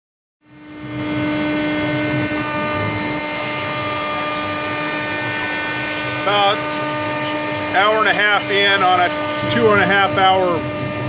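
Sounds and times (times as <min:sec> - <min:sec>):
low machine rumble: 0:00.4 - 0:11.0
router spindle whine: 0:00.4 - 0:11.0.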